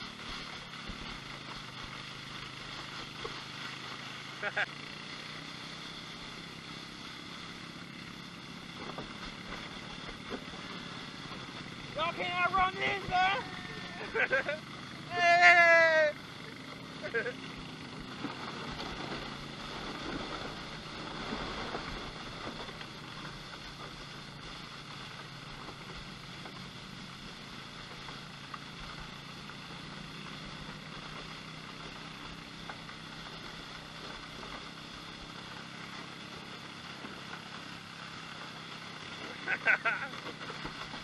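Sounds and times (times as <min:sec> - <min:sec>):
utility vehicle engine humming: 0:00.0 - 0:41.0
wind and ground noise: 0:00.0 - 0:41.0.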